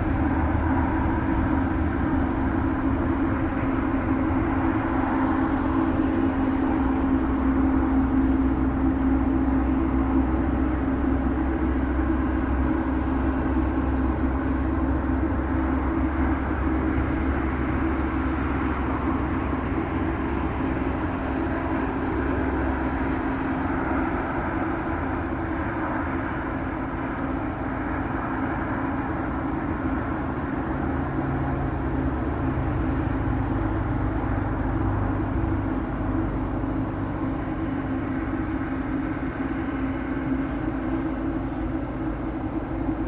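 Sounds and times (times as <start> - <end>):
jet engines at takeoff thrust: 0.0 - 43.0.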